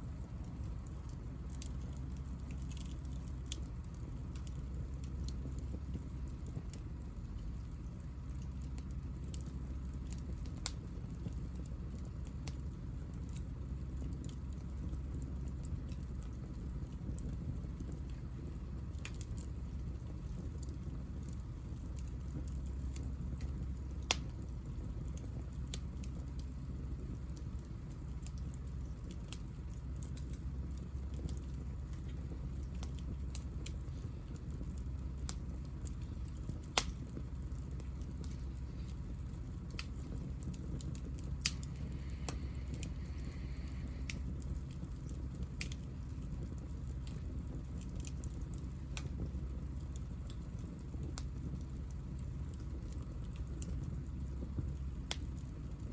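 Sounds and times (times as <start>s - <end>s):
fire low rumble: 0.0s - 55.9s
wood fire crackling and popping: 0.0s - 55.9s.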